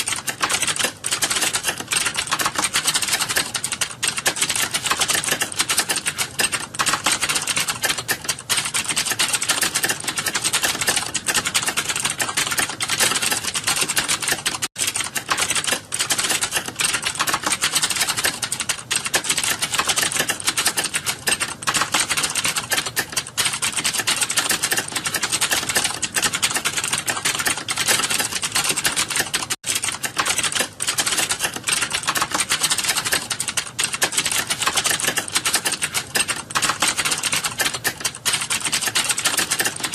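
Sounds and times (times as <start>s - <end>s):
fast typing on a keyboard: 0.0s - 39.9s.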